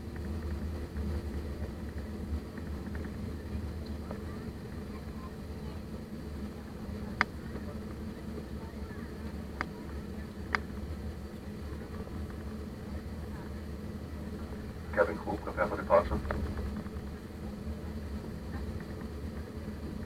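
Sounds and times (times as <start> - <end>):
airplane cabin hum: 0.0 - 20.0.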